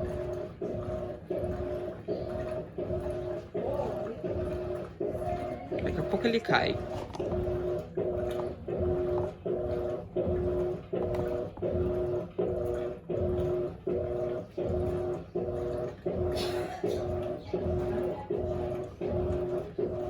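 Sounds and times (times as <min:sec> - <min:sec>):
washing machine agitating: 0:00.0 - 0:20.0.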